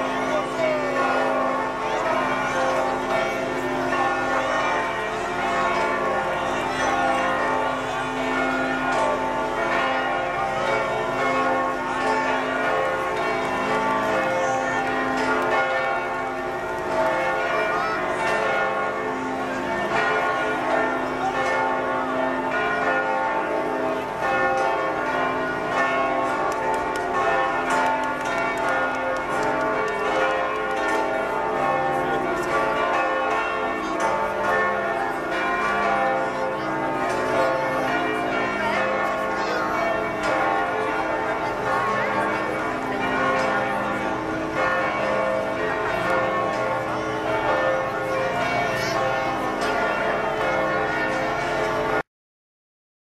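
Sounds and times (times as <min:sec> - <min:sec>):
crowd voices: 0:00.0 - 0:51.8
church bells pealing: 0:00.0 - 0:52.0.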